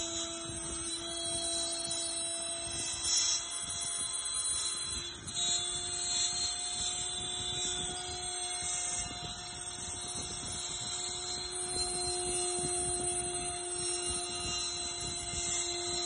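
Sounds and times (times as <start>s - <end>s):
spindle whine: 0.0s - 16.0s.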